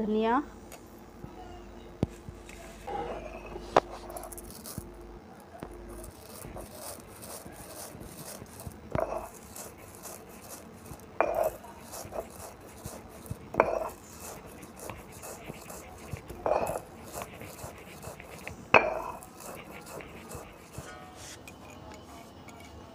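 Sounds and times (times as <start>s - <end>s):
stone roller crushing seeds: 2.8s - 22.9s.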